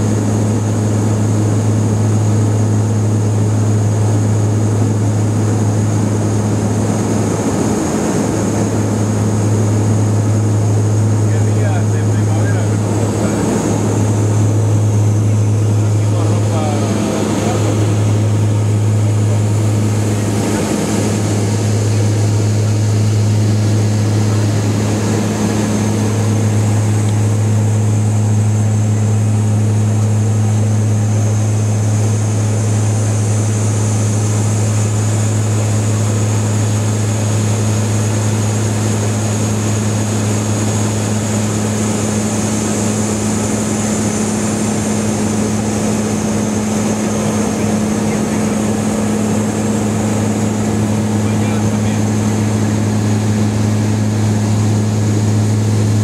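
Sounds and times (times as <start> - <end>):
high turbine whine: 0.0 - 56.0
propeller aircraft drone: 0.0 - 56.0.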